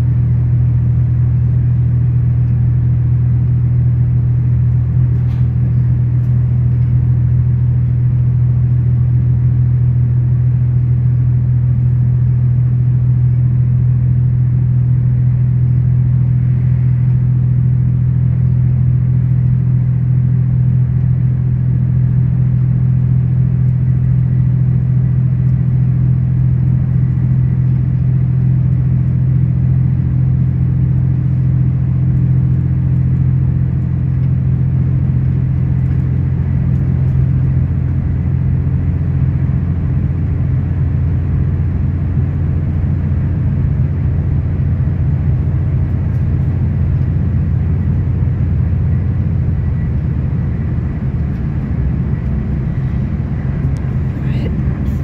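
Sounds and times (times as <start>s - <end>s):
train rumble from inside carriage: 0.0s - 55.0s.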